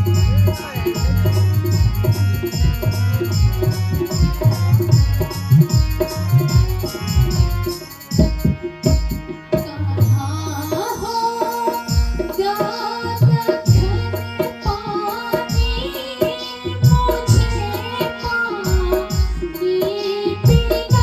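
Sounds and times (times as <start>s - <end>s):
hand drum beat: 0.0s - 21.0s.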